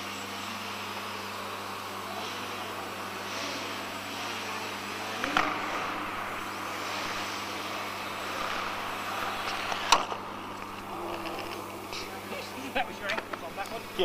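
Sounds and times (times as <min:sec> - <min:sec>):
electric motor and propeller buzz: 0:00.0 - 0:14.0.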